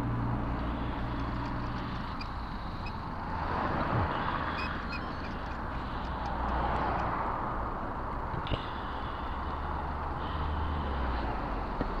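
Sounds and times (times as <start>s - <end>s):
low engine hum: 0.0s - 12.0s
vehicle road noise: 0.0s - 12.0s.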